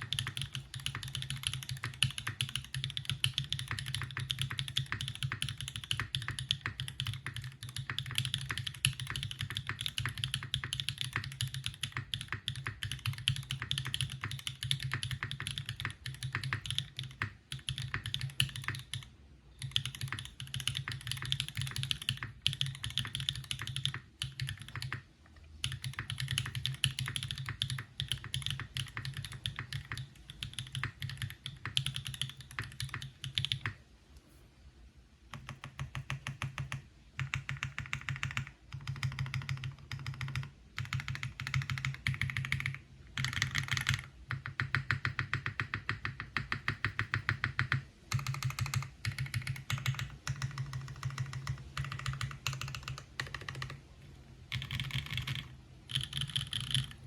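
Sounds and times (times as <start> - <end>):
mechanical keyboard typing: 0.0 - 33.8, 35.3 - 57.0.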